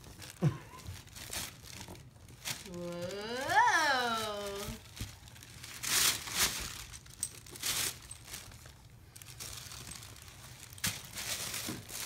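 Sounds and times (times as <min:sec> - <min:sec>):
paper sheet crinkling: 0:00.0 - 0:12.0.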